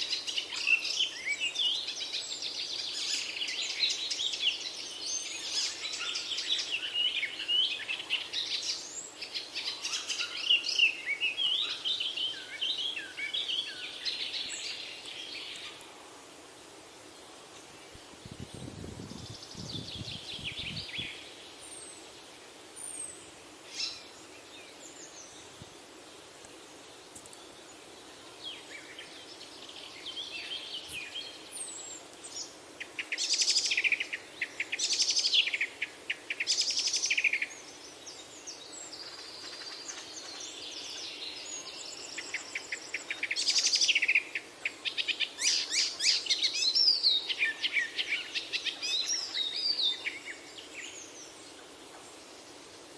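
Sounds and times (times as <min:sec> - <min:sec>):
songbirds singing and chirping: 0:00.0 - 0:52.9.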